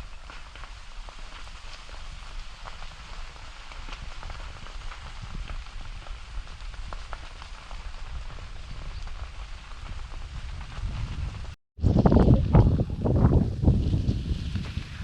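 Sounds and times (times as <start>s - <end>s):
small scattered crackles: 0.0s - 15.0s
wind buffeting microphone: 1.9s - 15.0s.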